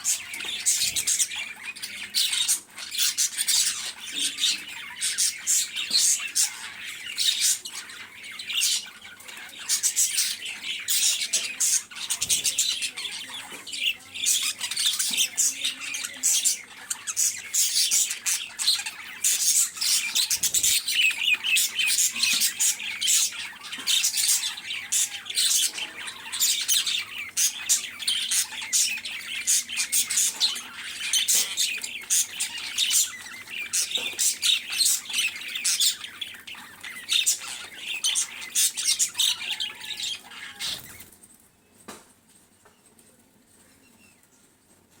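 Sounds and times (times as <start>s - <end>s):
small birds chattering: 0.0s - 45.0s.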